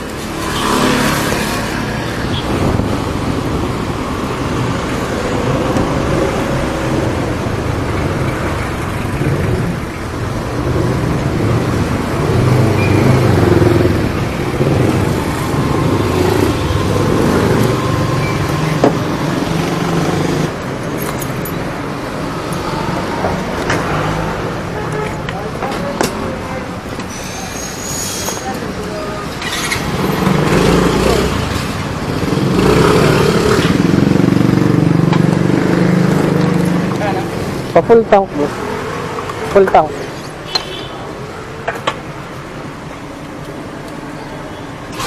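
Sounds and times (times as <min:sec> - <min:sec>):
traffic and road noise: 0:00.0 - 0:45.0.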